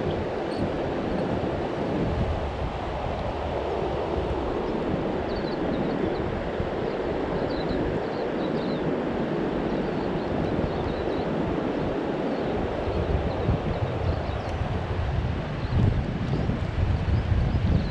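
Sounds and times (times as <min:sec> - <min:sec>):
river flowing: 0:00.0 - 0:15.6.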